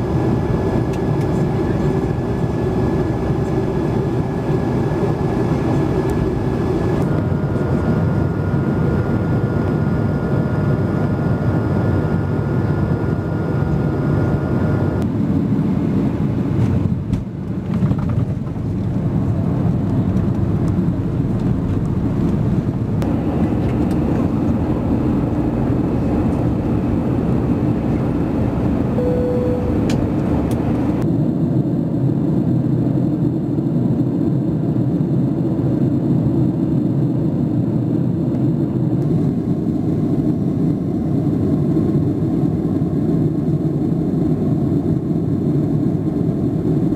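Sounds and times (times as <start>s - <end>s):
jet cabin engine rumble: 0.0s - 46.9s.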